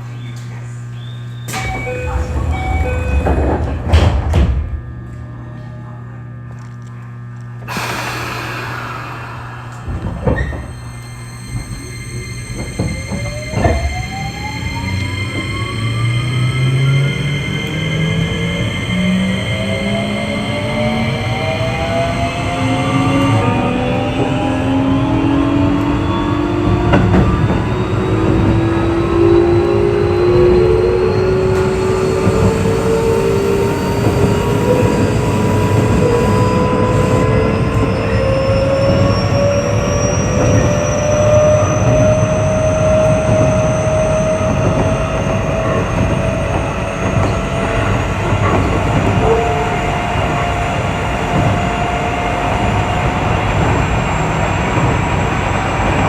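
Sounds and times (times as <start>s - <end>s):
wheels rumbling on rail: 0.0s - 5.7s, 7.6s - 56.0s
electric train motor whine: 1.4s - 5.4s, 6.4s - 56.0s.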